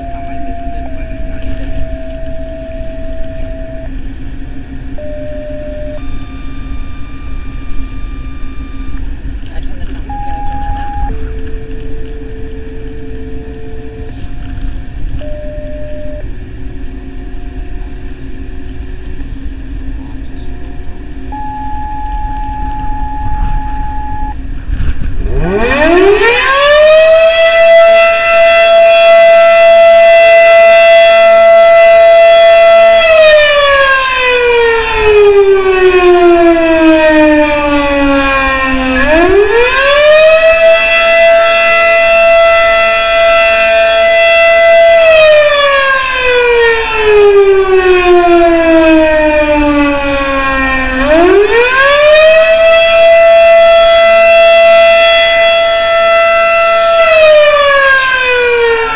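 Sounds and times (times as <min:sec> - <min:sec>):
wailing warning siren: 0:00.0 - 0:58.9.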